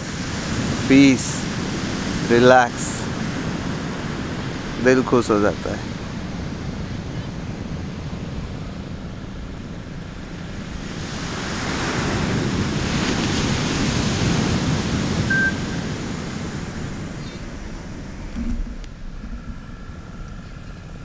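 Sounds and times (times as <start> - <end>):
waves breaking on beach: 0.0 - 20.0
wind buffeting microphone: 0.0 - 21.0.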